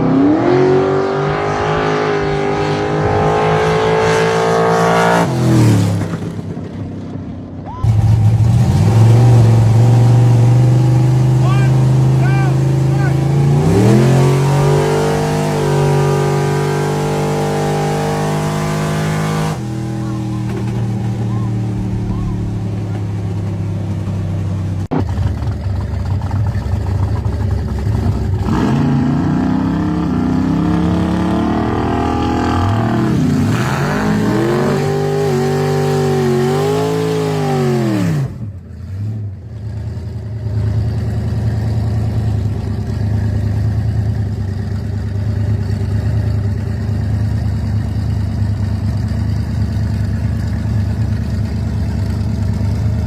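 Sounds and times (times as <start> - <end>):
drag car engine revving: 0.0 - 53.0.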